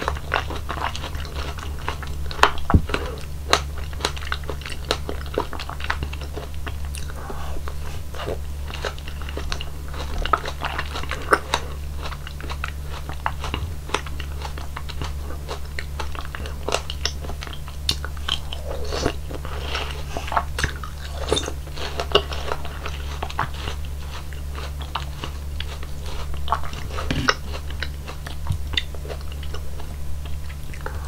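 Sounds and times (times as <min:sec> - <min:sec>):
chewing juicy fruit: 0:00.0 - 0:31.0.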